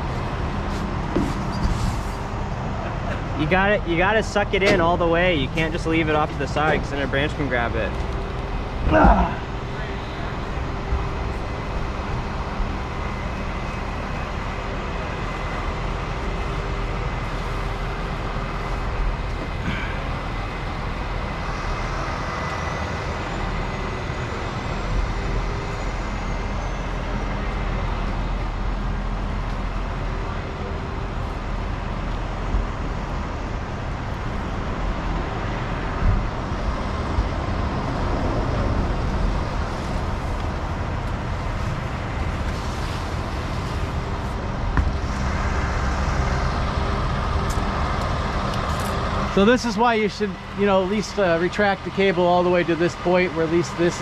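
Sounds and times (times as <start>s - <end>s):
heavy machine engine running: 0.0s - 54.0s.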